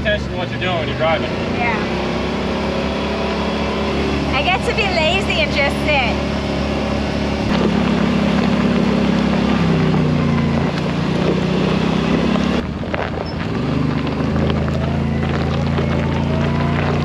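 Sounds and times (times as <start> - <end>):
tyres on gravel: 0.0 - 17.0
utility vehicle engine running: 0.0 - 17.0.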